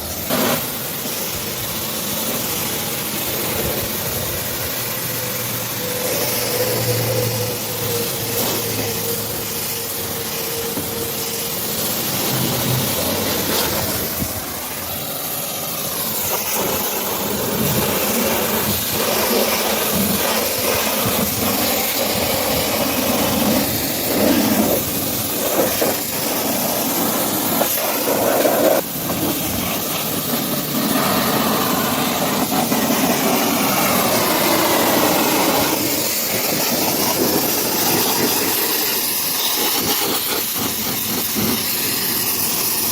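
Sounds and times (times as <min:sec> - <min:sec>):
pressure washer spraying water: 0:00.0 - 0:42.9.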